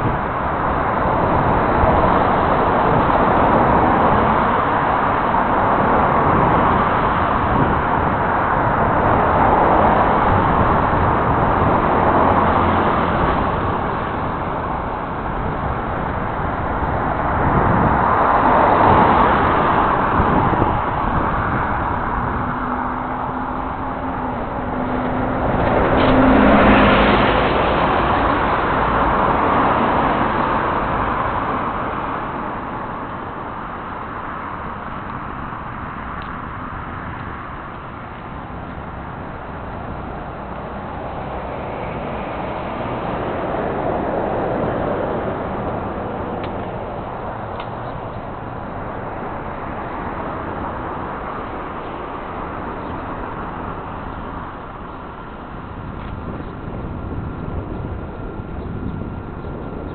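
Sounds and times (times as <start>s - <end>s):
motor traffic passing: 0.0s - 59.9s
wind and road noise: 0.0s - 59.9s.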